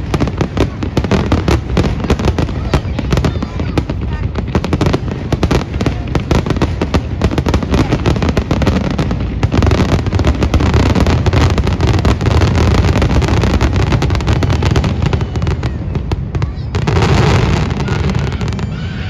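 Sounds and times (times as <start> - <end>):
rapid firework bangs: 0.0 - 19.0.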